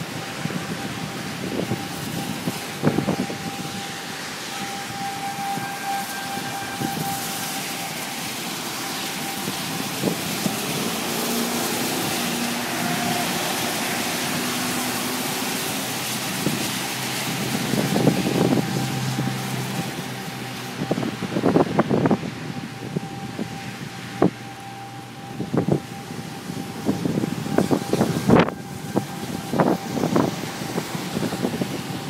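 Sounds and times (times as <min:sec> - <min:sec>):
wind blowing across microphone: 0:00.0 - 0:32.0.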